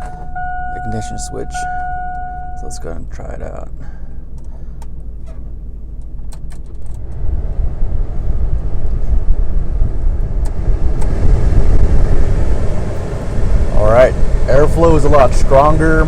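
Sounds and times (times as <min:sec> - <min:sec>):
vehicle idling: 0:00.0 - 0:16.0.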